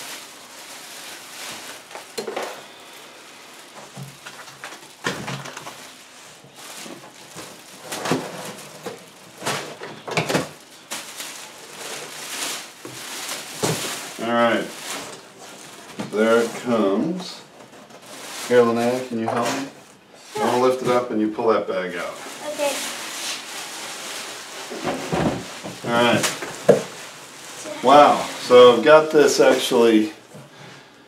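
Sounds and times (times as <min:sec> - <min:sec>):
plastic bag crinkling: 0:00.0 - 0:21.0, 0:21.9 - 0:30.4.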